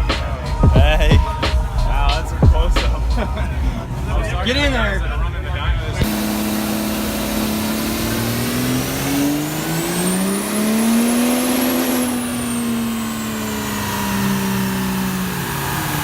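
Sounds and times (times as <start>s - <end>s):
car engine revving: 0.0s - 4.3s, 5.9s - 16.0s
high whine: 0.0s - 4.3s, 6.0s - 16.0s.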